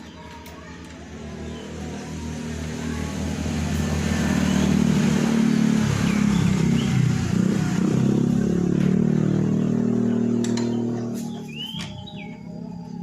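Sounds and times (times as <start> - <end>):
motorcycle engine revving: 1.0 - 13.0.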